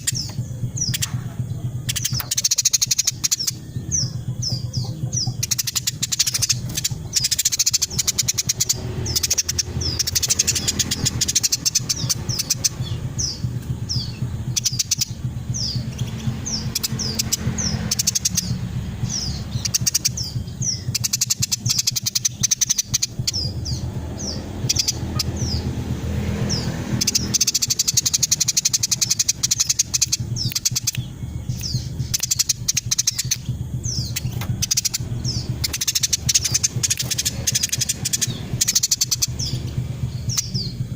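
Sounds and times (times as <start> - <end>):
low hum: 0.0 - 40.9
sparrow chirping: 0.0 - 40.9.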